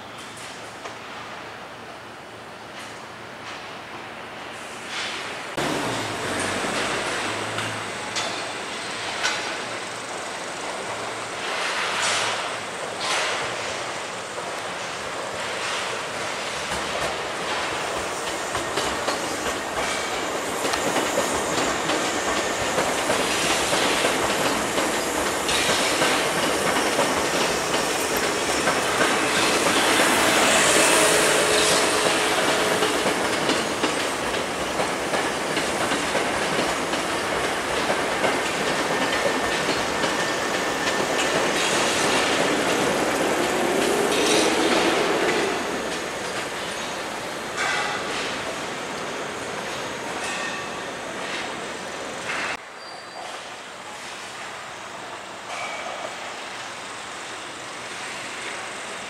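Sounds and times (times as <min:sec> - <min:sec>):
train wheels rumbling on rails: 0:02.6 - 0:59.0.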